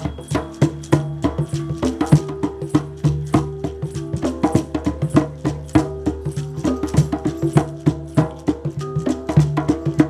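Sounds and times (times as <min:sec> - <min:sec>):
tuned percussion rhythm: 0:00.0 - 0:10.0.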